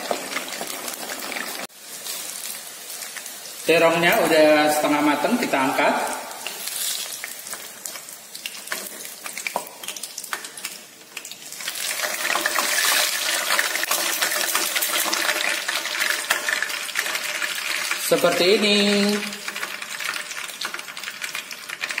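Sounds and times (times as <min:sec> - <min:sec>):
oil sizzling in a frying pan: 0:00.0 - 0:22.0.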